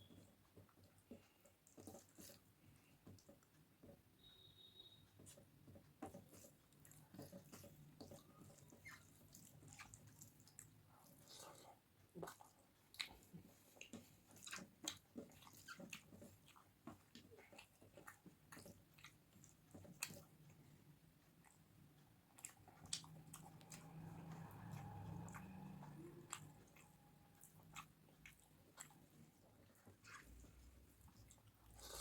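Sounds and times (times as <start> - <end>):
person chewing and eating: 0.1 - 3.6, 5.3 - 32.0.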